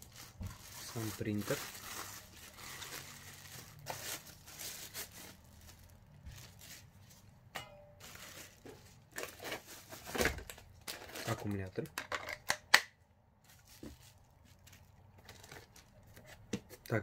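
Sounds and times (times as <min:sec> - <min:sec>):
plastic bag crinkling: 0:00.0 - 0:07.3, 0:08.0 - 0:11.8, 0:13.4 - 0:16.1.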